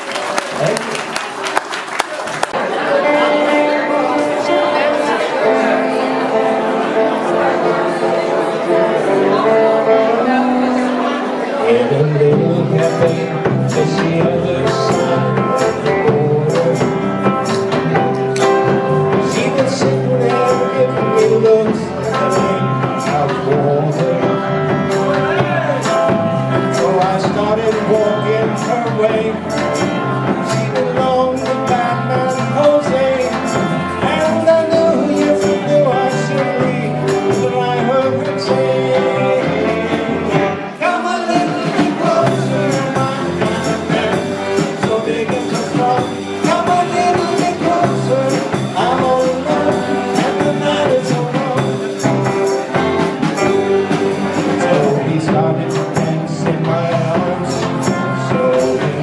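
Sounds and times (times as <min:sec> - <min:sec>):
rock and roll band playing: 0:00.0 - 0:59.0
person singing: 0:02.6 - 0:59.0.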